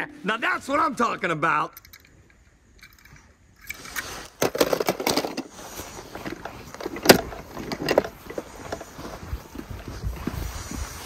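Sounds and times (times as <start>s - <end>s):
rustling and scraping: 1.8s - 11.0s.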